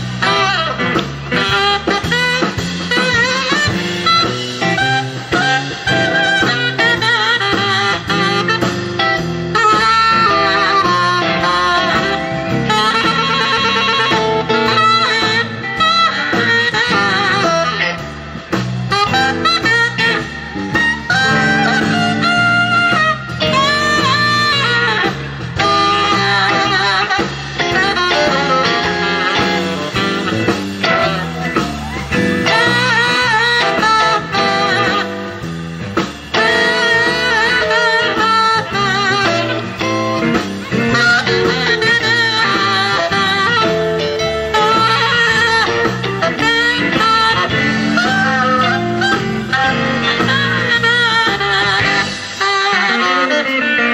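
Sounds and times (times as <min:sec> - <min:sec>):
band playing bluesy jazz: 0:00.0 - 0:53.9
electric guitar bending notes: 0:00.0 - 0:53.9
saxophone melody: 0:00.0 - 0:53.9.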